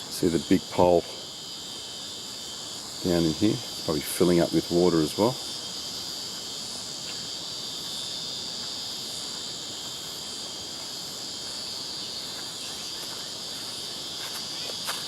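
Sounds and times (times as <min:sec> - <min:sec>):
insects chorus drone: 0:00.0 - 0:15.0.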